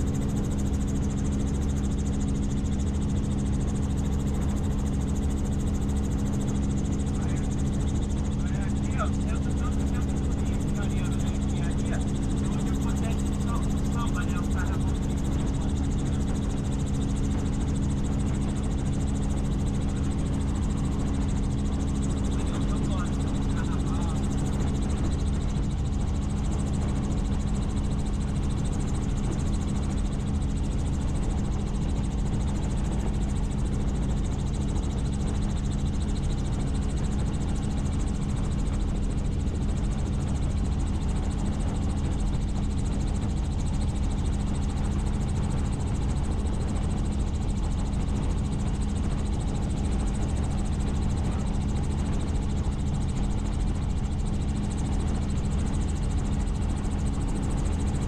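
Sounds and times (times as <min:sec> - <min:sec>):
helicopter drone: 0:00.0 - 0:58.0.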